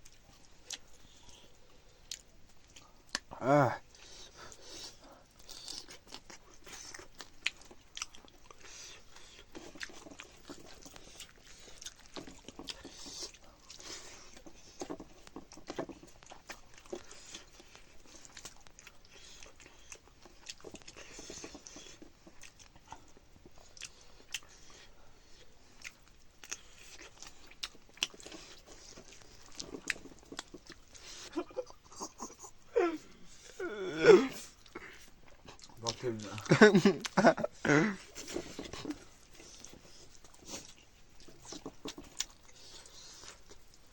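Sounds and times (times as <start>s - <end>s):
person chewing and crunching food: 0.0s - 43.9s.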